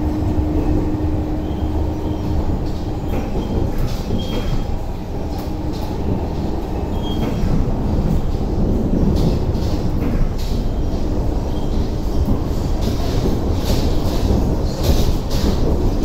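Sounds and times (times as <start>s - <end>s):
train motors and wheels rumbling: 0.0s - 16.0s.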